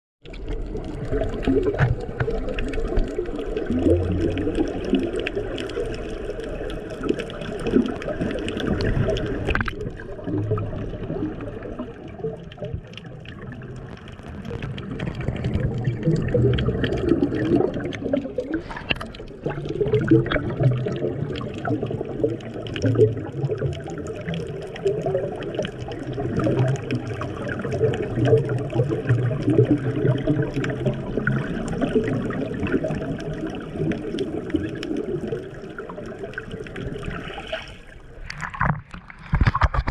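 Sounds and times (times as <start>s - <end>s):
underwater rushing and gurgling: 0.2s - 39.9s.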